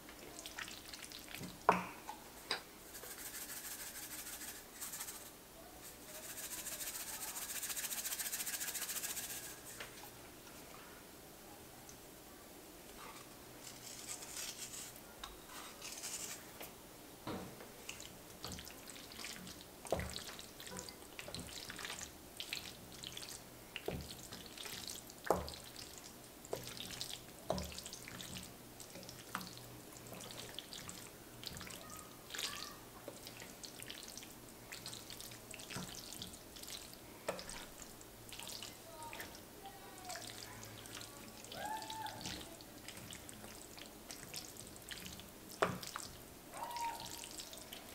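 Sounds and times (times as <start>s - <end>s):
spatula stirring mac and cheese: 0.0s - 10.1s, 12.9s - 16.6s, 17.7s - 47.9s.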